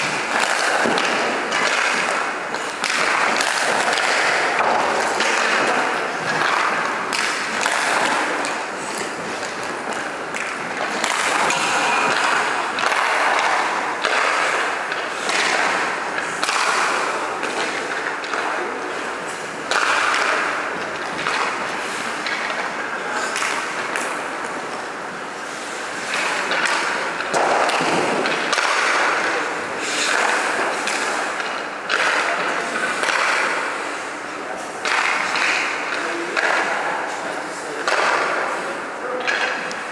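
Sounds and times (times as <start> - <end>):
skate blades scraping ice: 0.0 - 39.5
hockey sticks and pucks clicking: 0.0 - 39.9.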